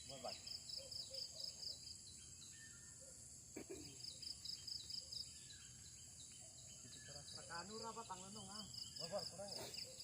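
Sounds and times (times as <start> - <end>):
bird chirps: 0.0 - 10.0.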